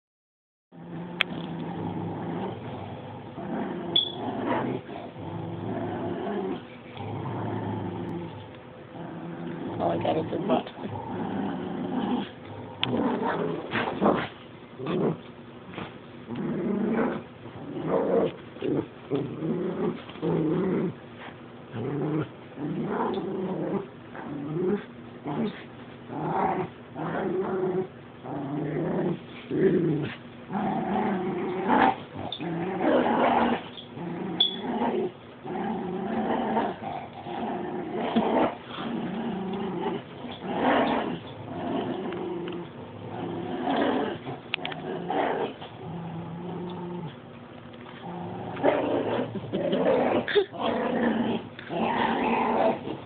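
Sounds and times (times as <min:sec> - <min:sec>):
dogs growling in play: 0:00.8 - 0:53.0.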